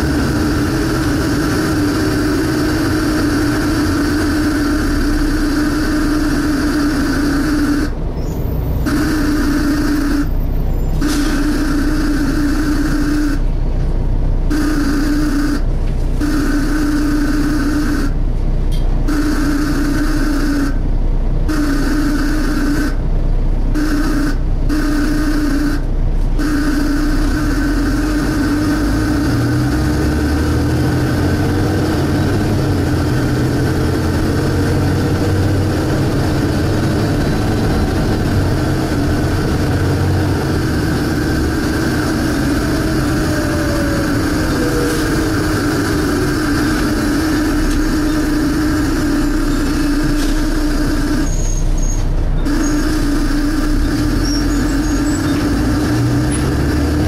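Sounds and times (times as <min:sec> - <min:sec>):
bus diesel engine: 0:00.0 - 0:57.0
steady whine: 0:00.0 - 0:57.0.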